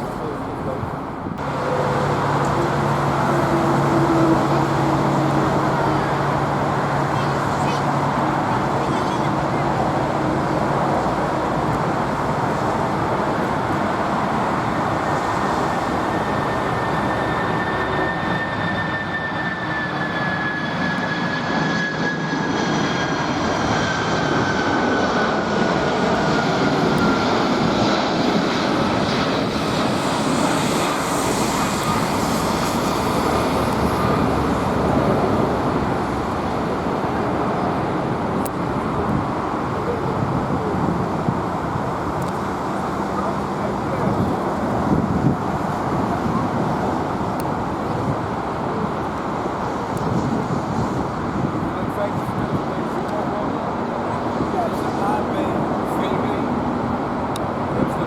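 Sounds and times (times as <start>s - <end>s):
jet engines passing by: 0.0s - 58.0s.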